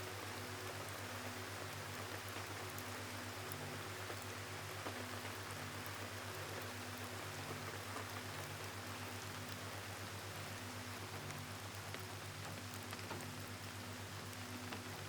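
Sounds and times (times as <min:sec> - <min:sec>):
gentle rain falling: 0:00.0 - 0:15.0.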